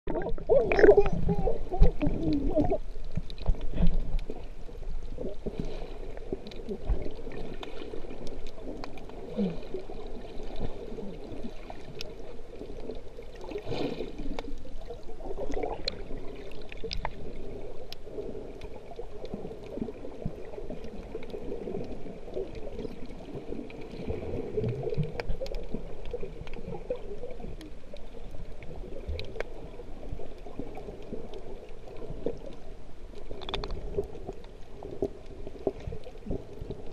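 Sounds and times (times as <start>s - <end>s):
faint underwater clicks: 0.1s - 36.9s
muffled underwater wash: 0.1s - 36.9s.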